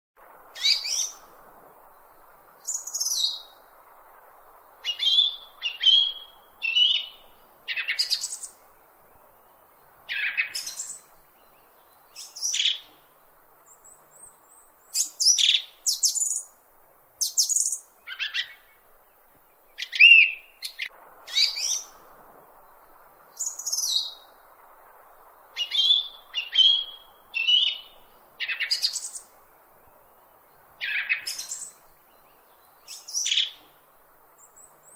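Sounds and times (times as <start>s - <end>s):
faint steady hiss: 0.2s - 34.9s
bird chirping: 0.6s - 1.3s, 2.0s - 3.7s, 4.4s - 16.6s, 17.2s - 22.0s, 22.6s - 24.4s, 25.2s - 34.9s.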